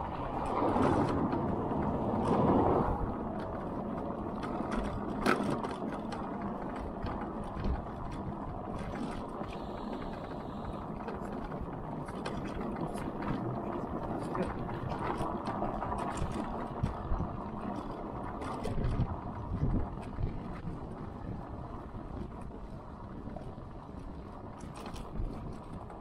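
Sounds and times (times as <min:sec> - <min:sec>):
wind and road noise: 0:00.0 - 0:26.0
small clicks and rattles: 0:00.3 - 0:26.0.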